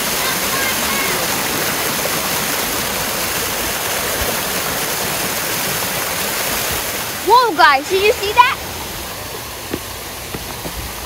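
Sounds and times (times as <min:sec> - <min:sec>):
toy car wheels churning water: 0:00.0 - 0:11.0
water rushing: 0:00.0 - 0:11.0.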